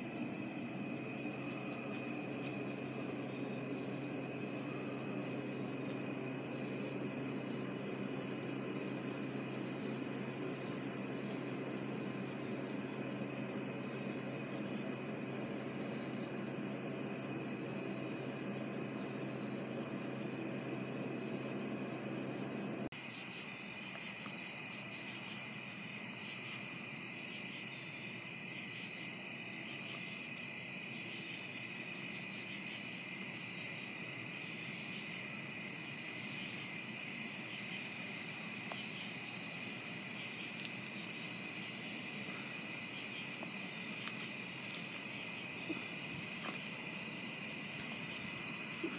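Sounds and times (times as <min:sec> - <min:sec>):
crickets and insects trilling: 0:00.0 - 0:48.9
low steady hum: 0:00.0 - 0:48.9.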